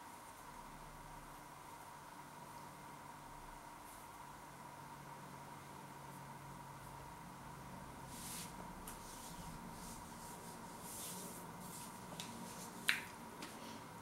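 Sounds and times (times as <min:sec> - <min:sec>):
faint high-pitched hum: 0:00.0 - 0:14.0.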